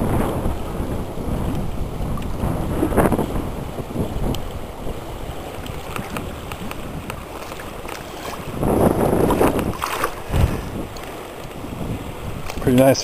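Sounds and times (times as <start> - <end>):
river water: 0.0 - 13.0
water splashing: 0.0 - 13.0
wind noise on microphone: 0.0 - 13.0.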